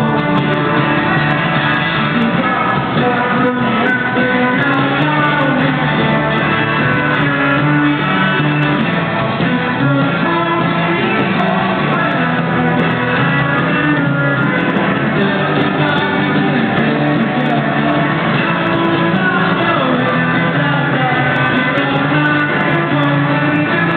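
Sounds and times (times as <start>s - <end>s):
live band playing: 0.0s - 23.9s.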